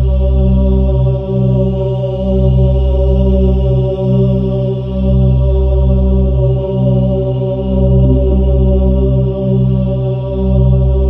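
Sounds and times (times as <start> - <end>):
meditation drone music: 0.0 - 11.0.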